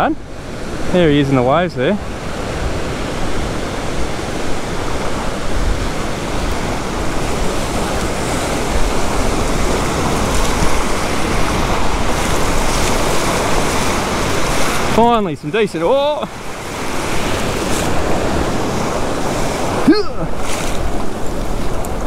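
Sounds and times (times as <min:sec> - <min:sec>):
waves breaking in shallow water: 0:00.0 - 0:22.0.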